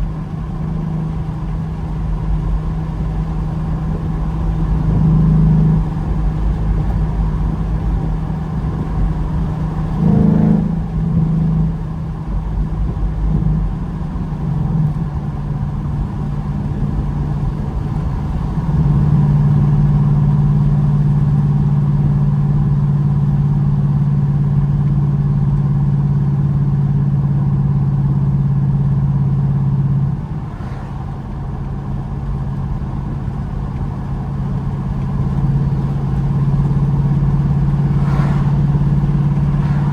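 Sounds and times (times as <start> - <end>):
car engine and exhaust driving: 0.0 - 39.9.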